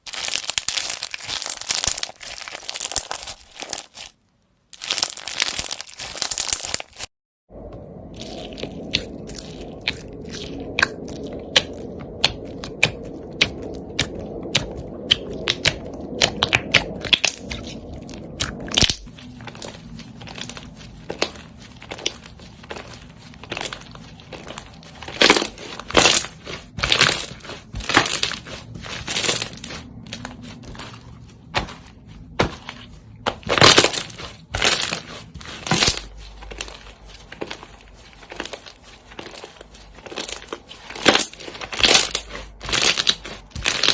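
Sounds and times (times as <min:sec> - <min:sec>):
slime crackling and popping: 0:00.0 - 0:07.1, 0:07.7 - 0:43.9
slime crunching squelches: 0:00.0 - 0:43.9
low steady hum: 0:07.5 - 0:43.9.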